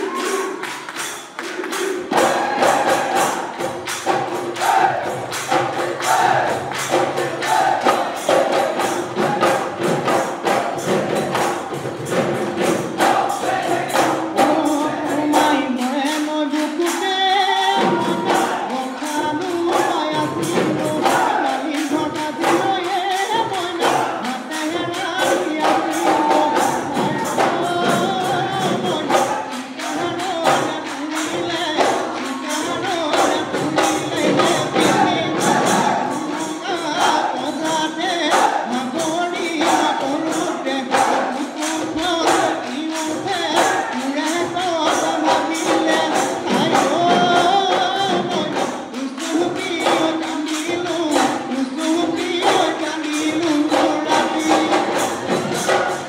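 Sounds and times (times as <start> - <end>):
group singing: 0.0 - 56.0
dhol drums beating: 0.1 - 56.0.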